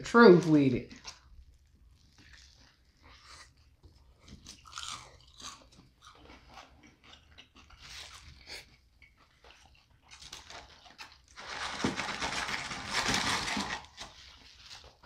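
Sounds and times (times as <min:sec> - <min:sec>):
chewing and crunching food: 0:00.2 - 0:15.0.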